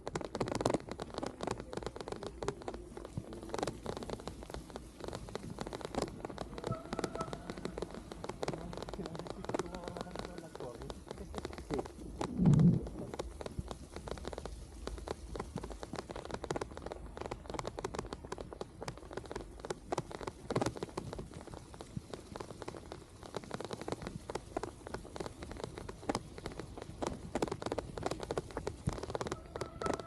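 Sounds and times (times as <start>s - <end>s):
rain drops ticking: 0.0s - 30.0s
rain rushing: 0.0s - 30.0s.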